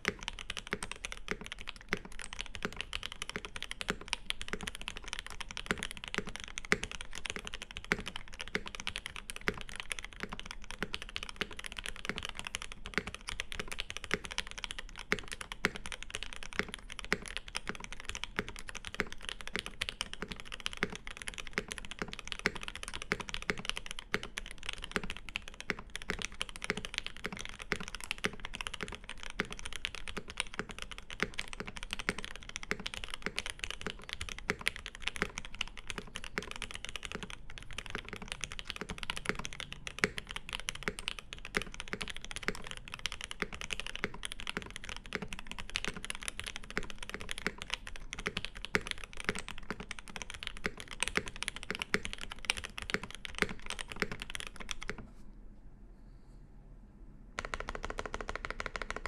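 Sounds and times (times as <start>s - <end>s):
mechanical keyboard typing: 0.0s - 55.1s, 57.4s - 59.0s.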